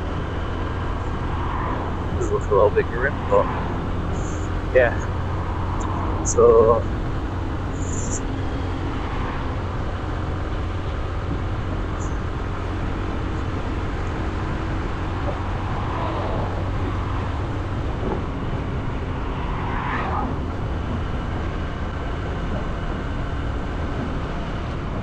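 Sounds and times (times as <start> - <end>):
wind noise on microphone: 0.0 - 25.0.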